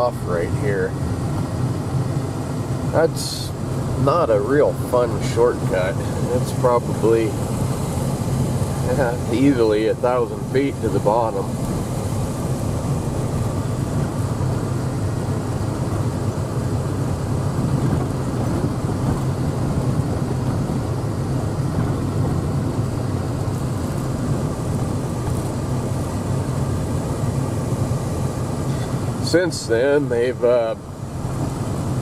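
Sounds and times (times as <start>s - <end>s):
low hum: 0.0s - 32.0s
vehicle engine and road noise: 0.0s - 32.0s.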